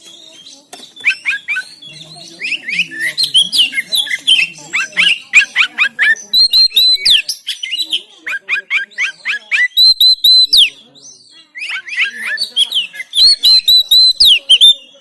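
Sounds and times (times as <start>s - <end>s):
bird singing chirps and whistles: 0.0s - 15.0s.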